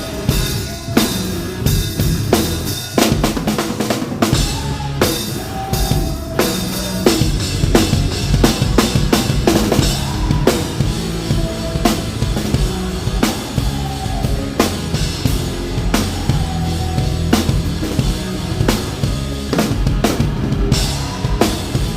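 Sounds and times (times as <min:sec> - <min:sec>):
drum kit: 0:00.0 - 0:21.9
rock band playing: 0:00.0 - 0:21.9.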